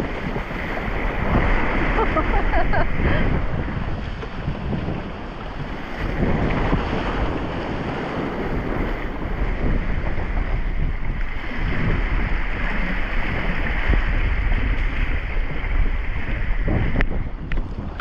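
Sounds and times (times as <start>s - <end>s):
deep rumbling noise: 0.0s - 18.0s
water splashing against hulls: 0.0s - 18.0s
wind buffeting microphone: 0.0s - 18.0s.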